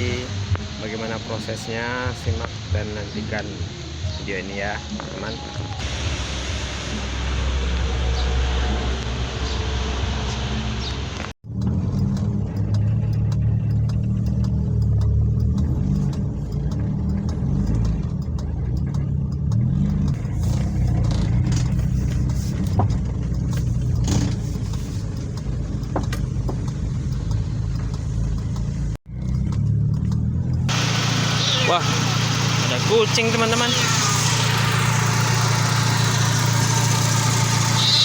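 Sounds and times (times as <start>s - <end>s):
car engine running: 5.8s - 38.0s.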